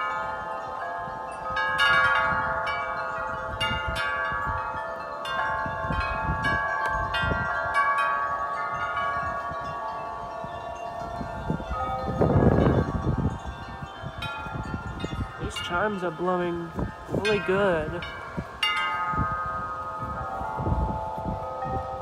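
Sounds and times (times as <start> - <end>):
low rumble of wind: 0.0 - 22.0
wind chimes ringing: 0.0 - 22.0.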